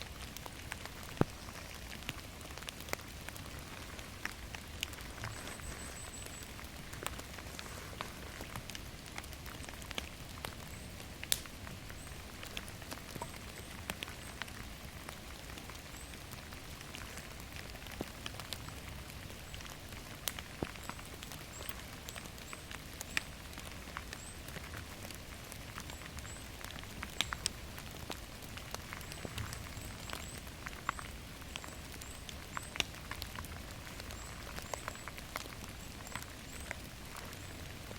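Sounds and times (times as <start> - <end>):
raindrops ticking on surfaces: 0.0 - 37.9
steady rain falling: 0.0 - 37.9.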